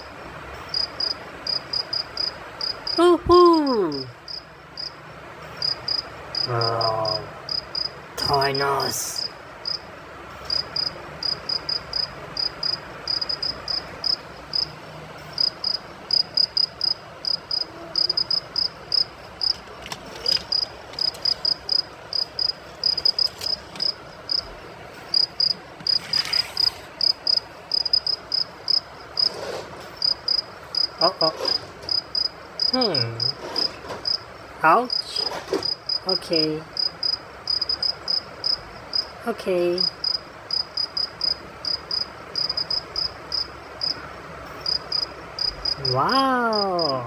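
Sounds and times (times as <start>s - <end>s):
cricket chirping: 0.0s - 47.0s.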